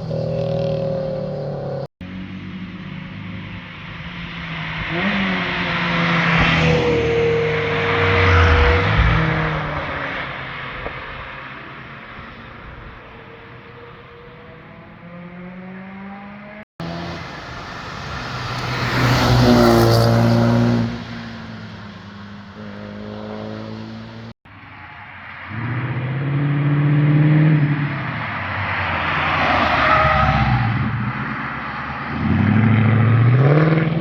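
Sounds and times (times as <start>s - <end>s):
cars accelerating past: 0.0s - 34.0s.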